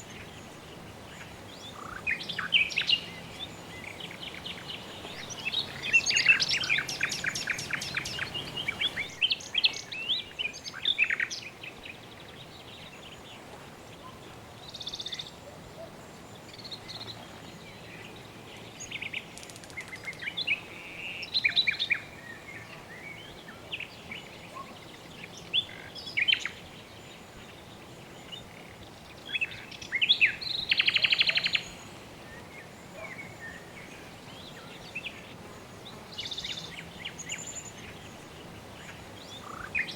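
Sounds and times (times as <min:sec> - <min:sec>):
birds chirping and trilling: 0:00.0 - 0:13.3, 0:14.0 - 0:39.9
faint hiss: 0:00.0 - 0:39.9.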